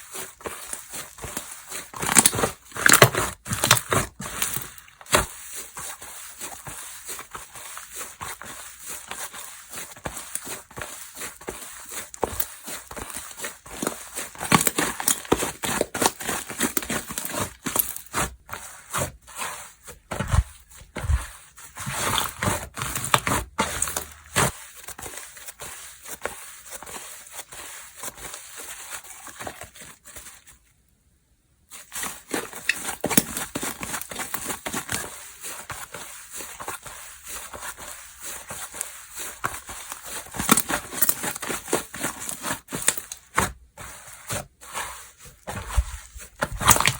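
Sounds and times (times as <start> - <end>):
hands squishing slime: 0.0 - 30.5, 31.7 - 46.9.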